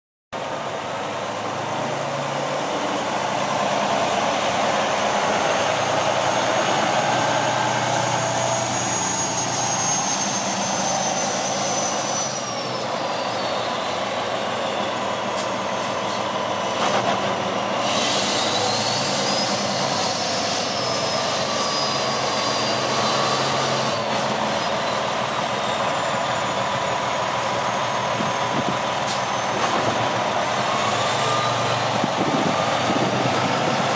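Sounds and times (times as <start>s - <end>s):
high engine whine: 0.4s - 33.9s.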